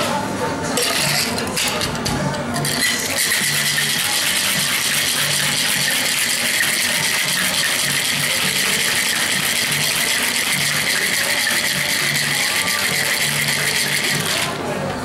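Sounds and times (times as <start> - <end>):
ice rattling in cocktail shaker: 0.8 - 14.6.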